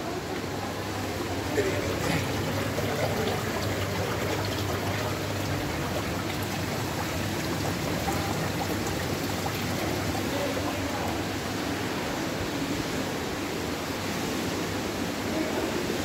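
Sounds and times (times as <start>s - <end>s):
trickling water: 0.0s - 16.0s.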